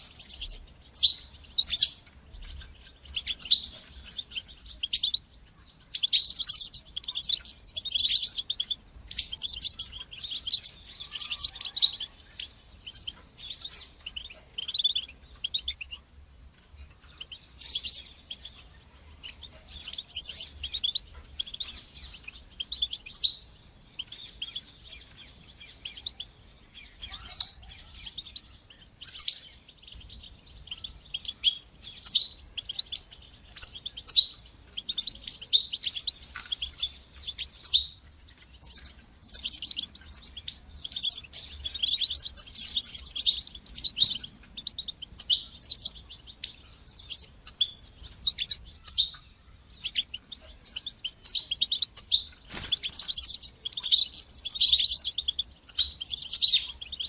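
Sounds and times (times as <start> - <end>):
goldfinch twittering and chirping: 0.0 - 57.0.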